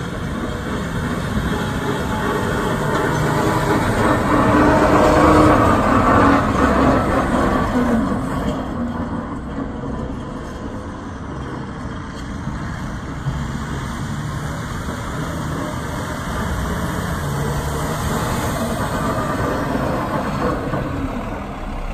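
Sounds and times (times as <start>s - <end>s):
dump truck diesel engine: 0.0s - 21.9s.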